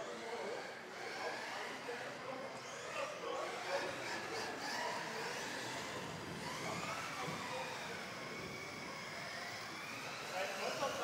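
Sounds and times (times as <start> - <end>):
electric toy car motors whining: 0.1 - 11.0.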